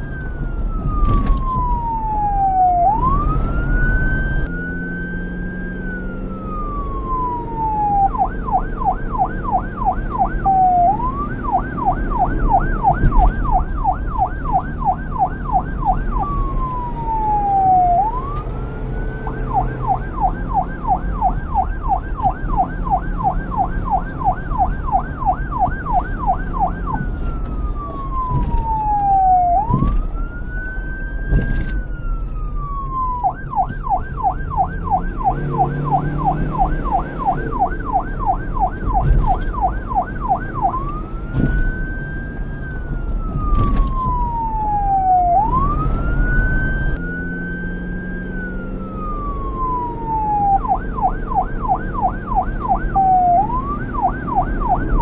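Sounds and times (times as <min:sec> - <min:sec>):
police siren yelp and wail: 0:00.0 - 0:55.0.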